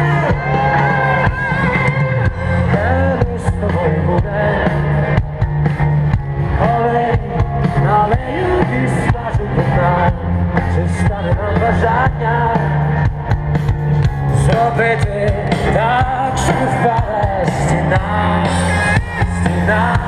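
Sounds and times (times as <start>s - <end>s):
deep bass: 0.0s - 20.0s
drums: 0.0s - 20.0s
guitar: 0.0s - 20.0s
live rock music: 0.0s - 20.0s
singer's voice: 0.0s - 20.0s.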